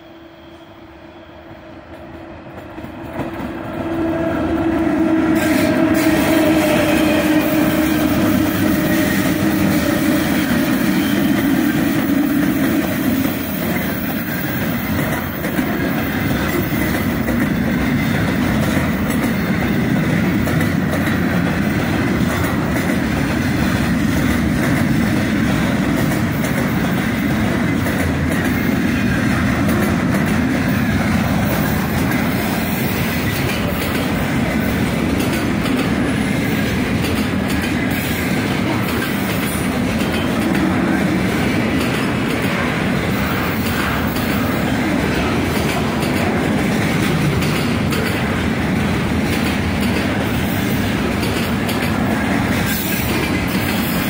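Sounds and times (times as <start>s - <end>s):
electric locomotives humming: 0.0s - 54.0s.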